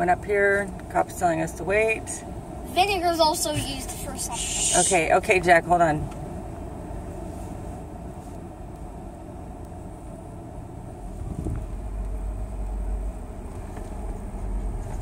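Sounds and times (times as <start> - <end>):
low hum inside car cabin: 0.0 - 15.0.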